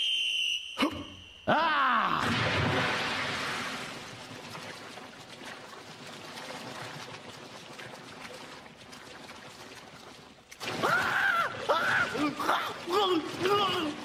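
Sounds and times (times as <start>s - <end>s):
water splashing from swimmer: 2.2s - 14.0s.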